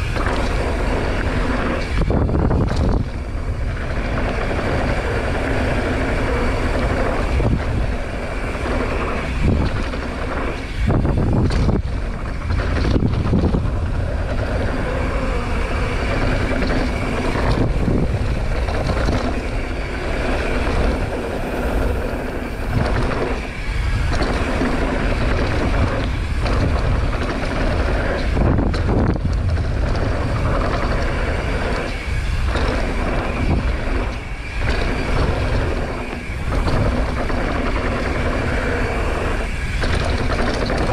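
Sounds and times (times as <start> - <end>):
bike tyre rumble: 0.0 - 40.9
wind rush on microphone: 0.0 - 40.9.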